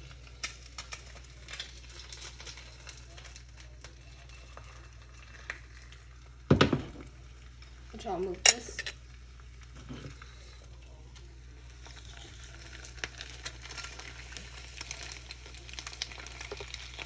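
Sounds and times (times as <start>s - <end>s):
crackles and pops: 0.0s - 17.0s
oil sizzling in a frying pan: 0.0s - 17.0s.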